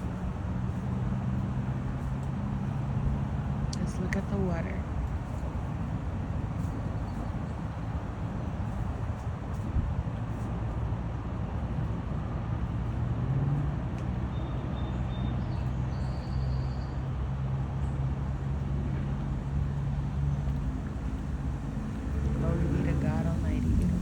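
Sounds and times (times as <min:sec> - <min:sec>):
noisy rumble: 0:00.0 - 0:14.3, 0:16.9 - 0:24.0
low engine hum: 0:00.0 - 0:24.0.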